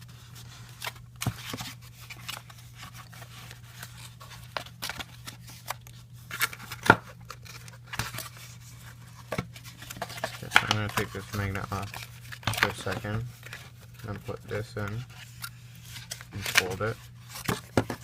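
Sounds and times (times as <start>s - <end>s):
cardboard being folded: 0.0s - 18.0s.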